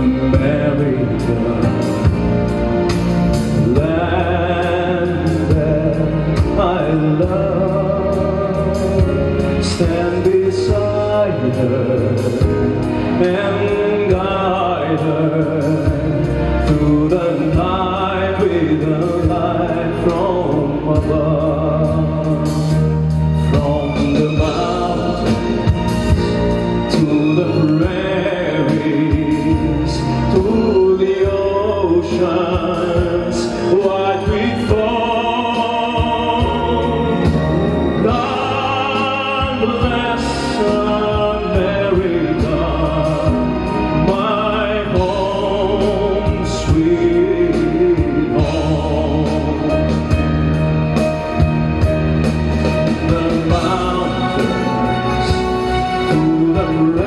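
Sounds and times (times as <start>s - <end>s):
instrumental backing music: 0.0s - 57.0s
man singing into a microphone: 0.0s - 57.0s.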